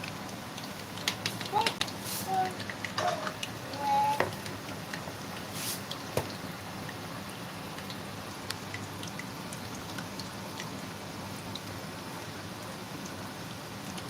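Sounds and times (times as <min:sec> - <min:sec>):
batter deep-frying in oil: 0:00.0 - 0:14.0.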